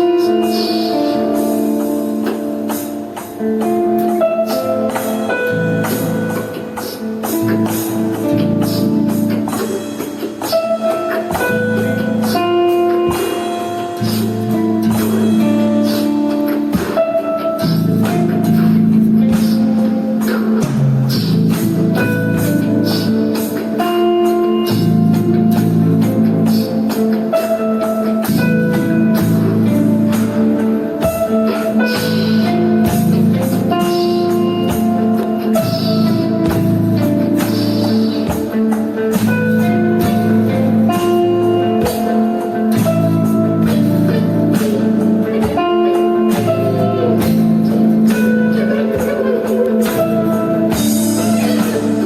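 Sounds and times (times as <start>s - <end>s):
guitar: 0.0s - 52.0s
steady percussion beat: 0.0s - 52.0s.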